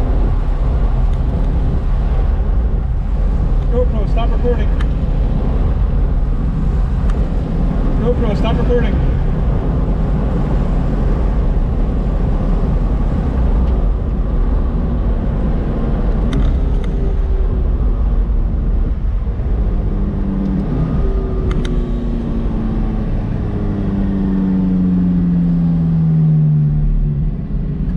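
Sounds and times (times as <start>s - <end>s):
car engine from inside cabin: 0.0s - 27.9s.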